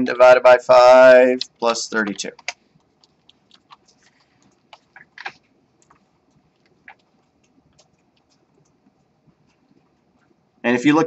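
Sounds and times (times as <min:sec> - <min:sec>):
faint irregular clicks and taps: 0:01.4 - 0:10.4.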